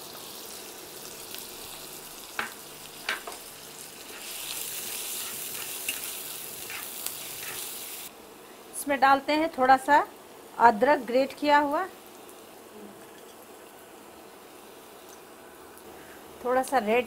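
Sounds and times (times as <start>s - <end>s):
onions sizzling in oil: 0.0s - 15.6s.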